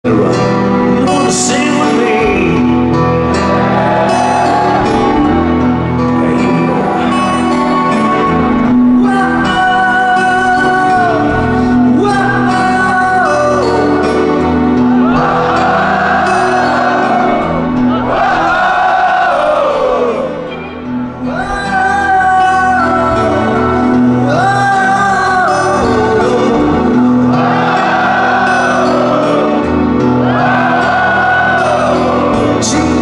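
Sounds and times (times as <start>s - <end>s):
person singing long notes: 0.0s - 33.0s
hard rock band playing live: 0.1s - 33.0s.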